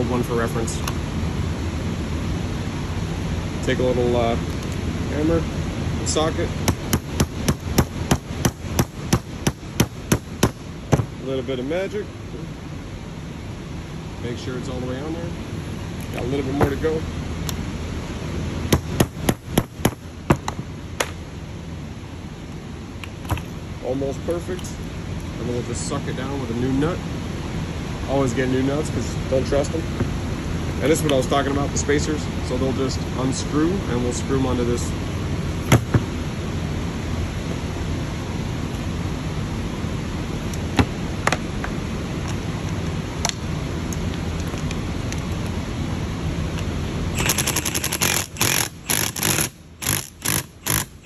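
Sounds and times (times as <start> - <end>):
steady background noise: 0.0 - 51.0.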